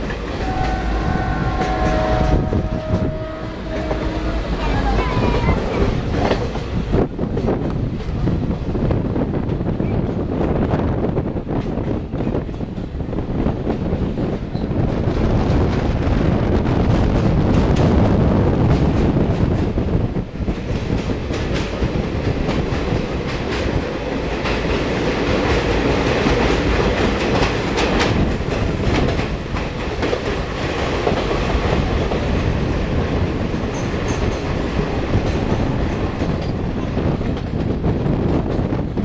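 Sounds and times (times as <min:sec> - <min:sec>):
train wheels clattering in tunnel: 0:00.0 - 0:39.0.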